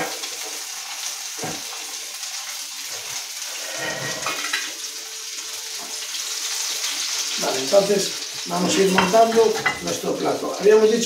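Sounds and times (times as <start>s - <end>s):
food sizzling in butter: 0.0s - 11.0s.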